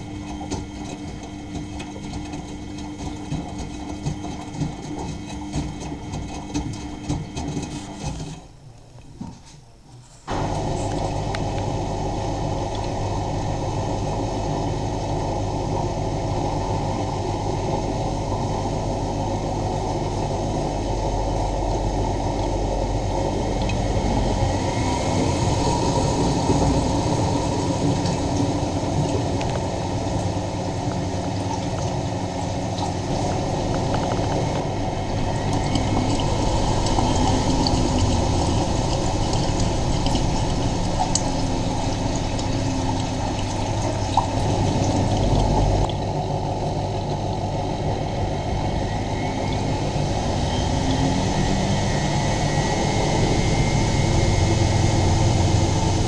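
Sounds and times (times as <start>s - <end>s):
washing machine water rushing: 0.0s - 8.6s, 10.3s - 56.0s
low hum: 9.9s - 56.0s.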